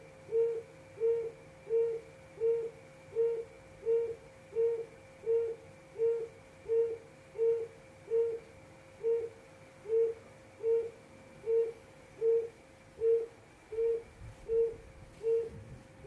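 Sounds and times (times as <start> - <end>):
faint steady hum: 0.0 - 16.0
quail hooting call: 0.3 - 15.6.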